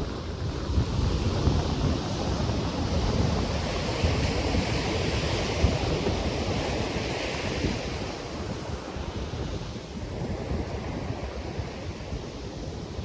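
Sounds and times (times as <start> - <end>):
ocean surf washing on shore: 0.0 - 13.0
wind buffeting microphone: 0.0 - 13.0.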